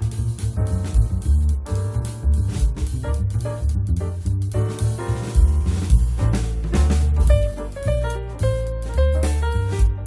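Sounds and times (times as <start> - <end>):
upbeat jazzy swing music: 0.0 - 10.0.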